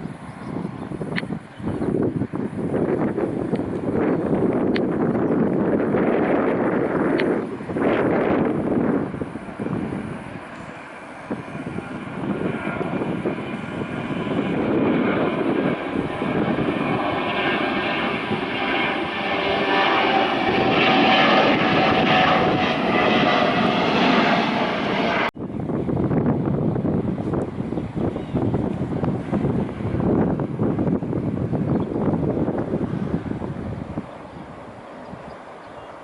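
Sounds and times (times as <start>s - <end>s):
jet engines roaring: 0.0s - 36.0s
wind noise on microphone: 0.0s - 36.0s.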